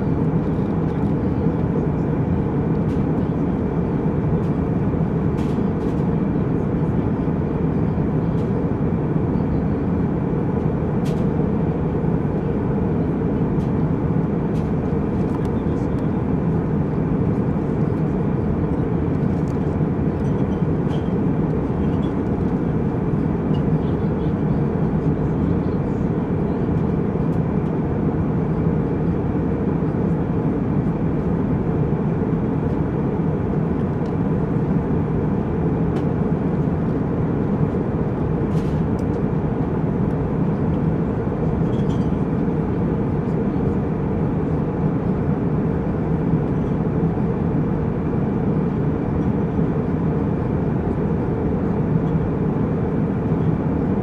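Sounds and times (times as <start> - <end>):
jet engines and airflow rushing: 0.0 - 54.0.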